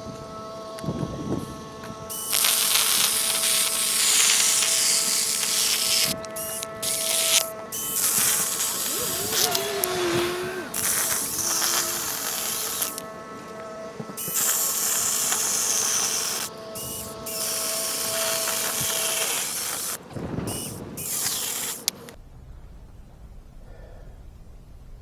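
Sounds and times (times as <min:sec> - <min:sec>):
small power tool running: 0:00.0 - 0:22.2.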